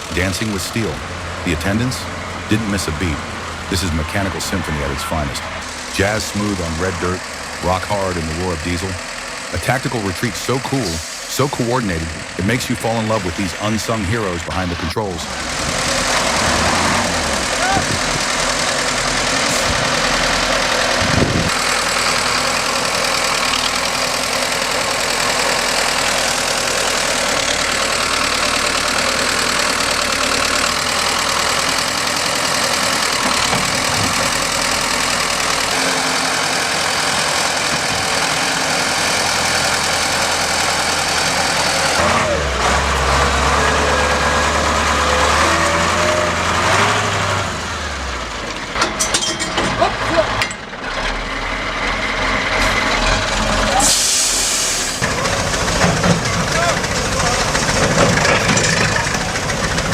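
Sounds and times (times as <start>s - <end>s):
deeper engine note: 0.0s - 48.6s
heavy diesel machinery running: 0.0s - 59.9s.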